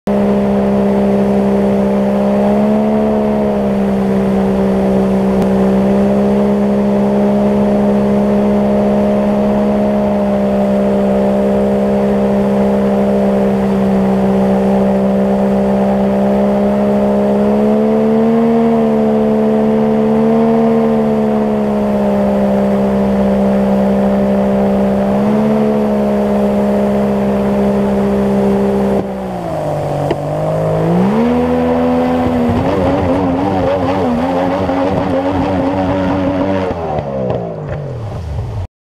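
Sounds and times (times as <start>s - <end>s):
outboard boat motor running: 0.0s - 38.6s.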